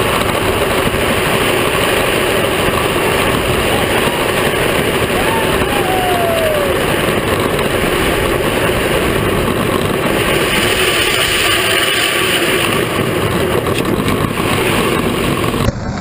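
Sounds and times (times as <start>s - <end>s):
wheels running over asphalt: 0.0s - 16.0s
wind buffeting camera: 0.0s - 16.0s.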